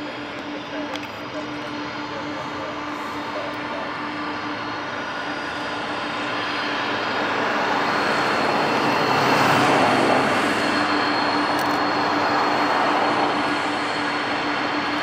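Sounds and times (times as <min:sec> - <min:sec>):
jet engines taxiing: 0:00.0 - 0:15.0.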